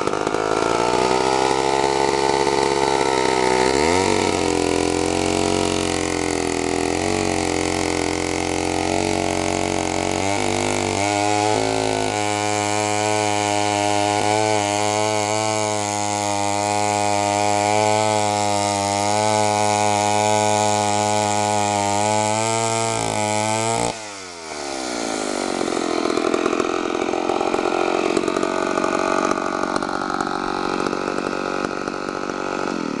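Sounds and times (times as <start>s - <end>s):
chainsaw cutting wood: 0.0s - 33.0s
chainsaw engine running: 0.0s - 33.0s.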